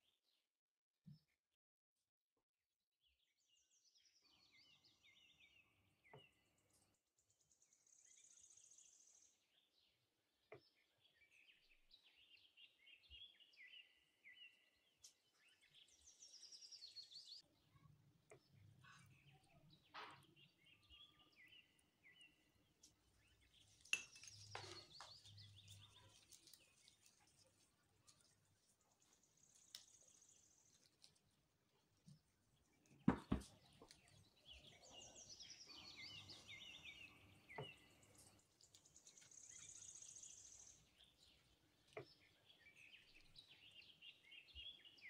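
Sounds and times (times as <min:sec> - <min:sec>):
faint birds chirping: 0:03.0 - 0:45.0.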